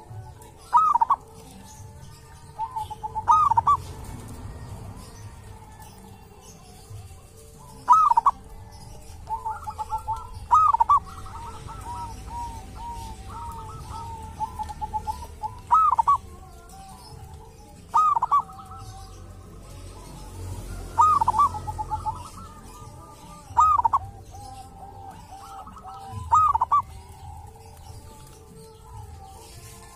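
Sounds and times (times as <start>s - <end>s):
dove cooing: 0.0s - 29.9s.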